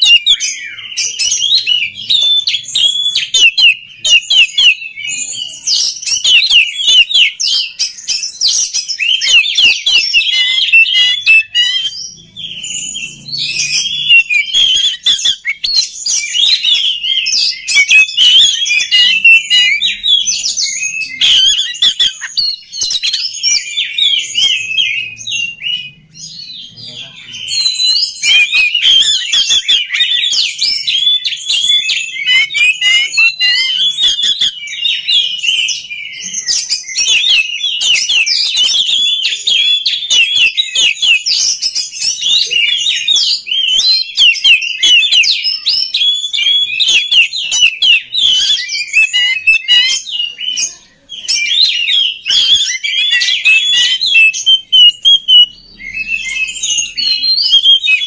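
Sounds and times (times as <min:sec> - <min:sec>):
bird singing varied chirps: 0:00.0 - 0:58.0.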